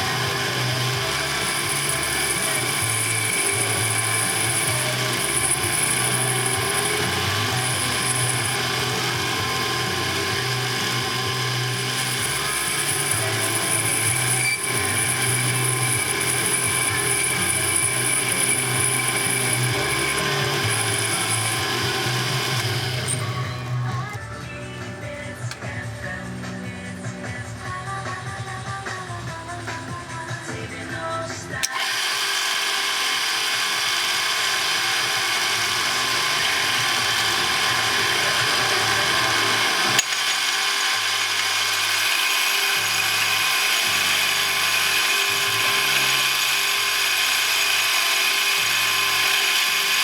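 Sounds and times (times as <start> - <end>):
machine tool running with whine: 0.0 - 24.2, 31.6 - 50.0.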